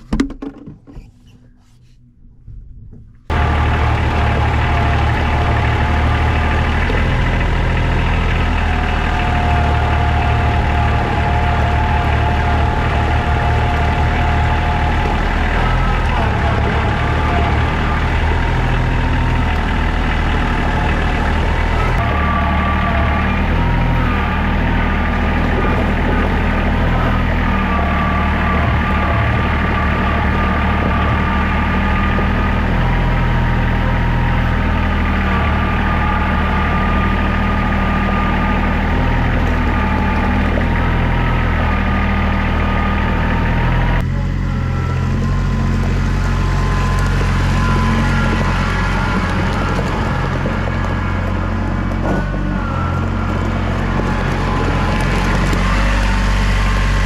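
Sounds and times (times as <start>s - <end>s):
steady whine: 1.4s - 57.0s
diesel tractor engine running: 3.1s - 57.0s.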